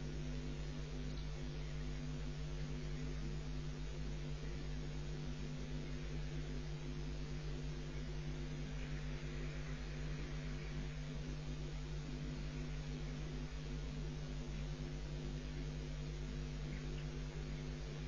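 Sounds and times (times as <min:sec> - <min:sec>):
electrical hum and hiss: 0:00.0 - 0:18.0.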